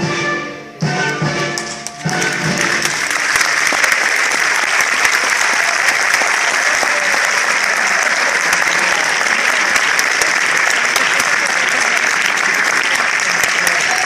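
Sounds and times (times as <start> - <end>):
audience applause: 1.6 - 14.0.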